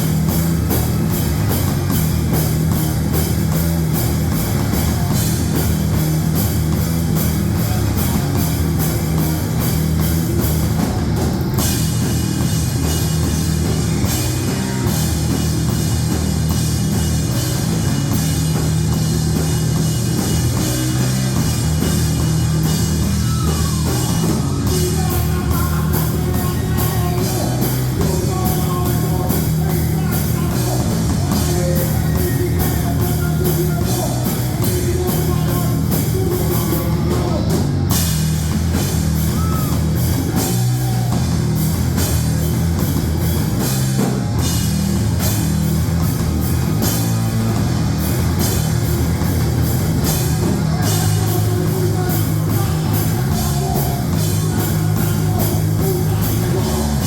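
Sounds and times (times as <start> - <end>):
distorted guitar and bass: 0.0 - 57.0
drum kit beating: 0.0 - 57.0.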